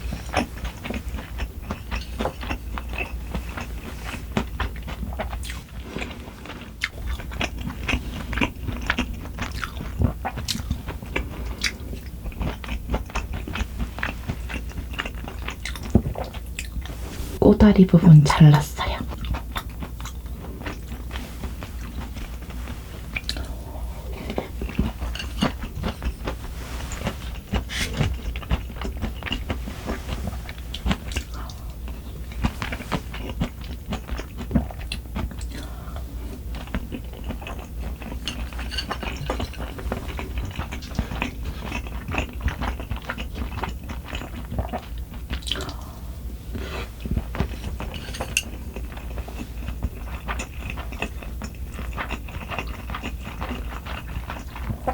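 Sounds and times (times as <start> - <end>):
wet crunchy chewing: 0.1 - 17.4, 19.1 - 54.9.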